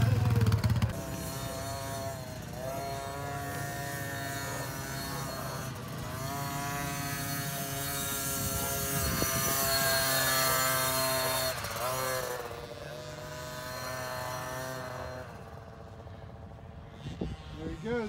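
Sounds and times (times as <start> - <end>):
dirt bike engine accelerating: 0.0 - 18.0.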